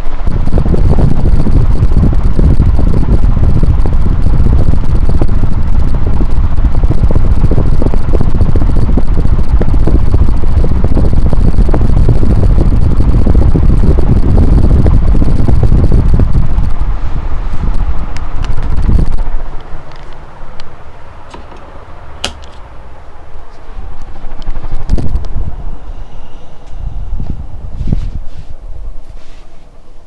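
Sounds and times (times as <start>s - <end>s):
ceiling fan wind rumble: 0.0s - 30.0s.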